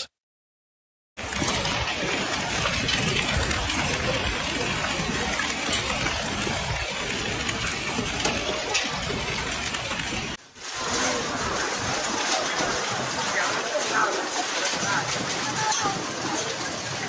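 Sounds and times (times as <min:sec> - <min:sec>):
heavy hail and rain: 0:01.2 - 0:17.0
sharp hail hits: 0:01.2 - 0:17.0.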